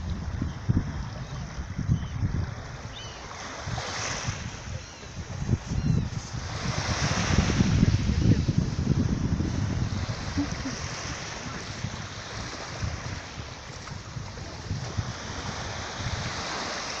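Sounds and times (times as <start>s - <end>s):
sea surf washing on shore: 0.0s - 17.0s
wind buffeting microphone: 0.0s - 17.0s.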